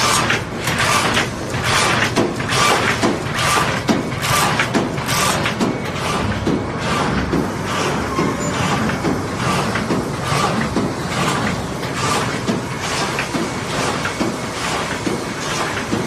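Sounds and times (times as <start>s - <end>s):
die-cutting machine clatter: 0.0s - 16.0s
steady mechanical hum: 0.0s - 16.0s.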